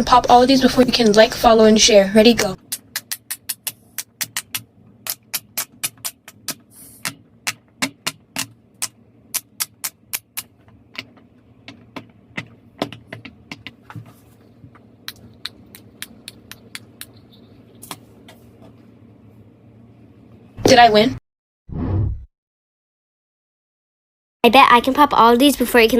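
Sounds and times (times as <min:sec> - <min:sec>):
low steady hum: 0:00.0 - 0:21.2.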